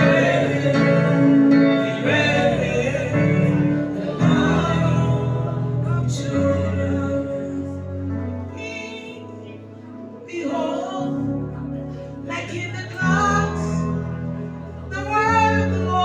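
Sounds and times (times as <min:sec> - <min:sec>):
gospel worship song: 0:00.0 - 0:16.0.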